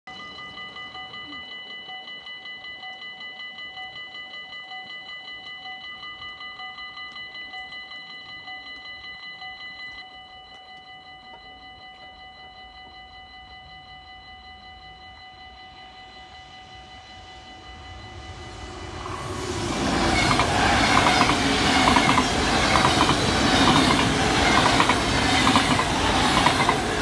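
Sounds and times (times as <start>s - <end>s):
level crossing bells ringing: 0.1s - 27.0s.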